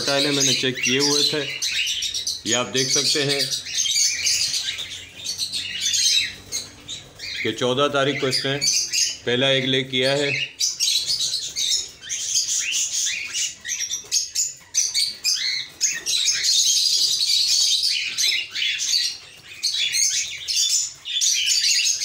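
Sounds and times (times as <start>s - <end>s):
cockatiels chirping and calling: 0.0s - 22.0s.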